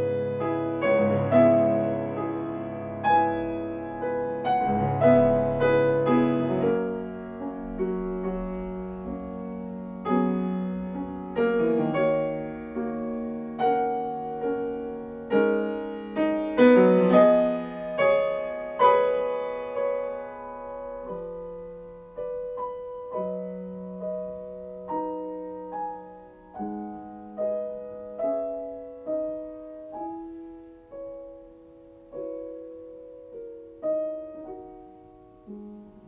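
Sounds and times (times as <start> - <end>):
solo piano: 0.0 - 36.0.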